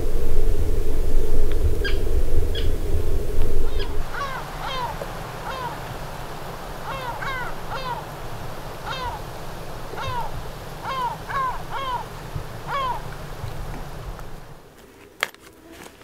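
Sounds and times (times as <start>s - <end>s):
gulls calling: 0.0s - 14.8s.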